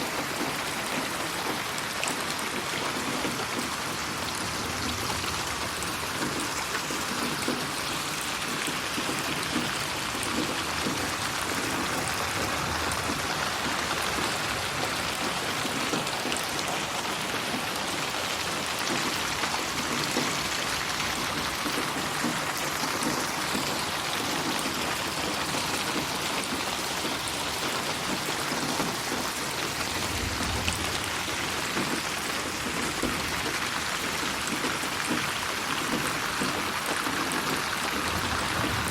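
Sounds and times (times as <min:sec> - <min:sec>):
rain falling: 0:00.0 - 0:38.9
small raindrop ticks: 0:00.1 - 0:38.9.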